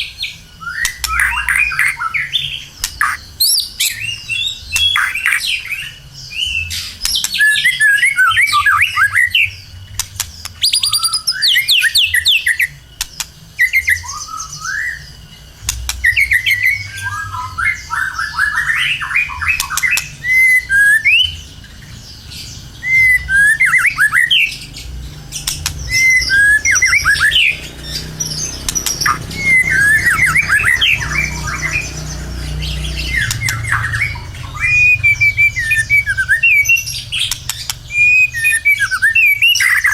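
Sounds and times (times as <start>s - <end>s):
bird singing whistled phrases: 0.0s - 24.7s, 25.4s - 39.9s.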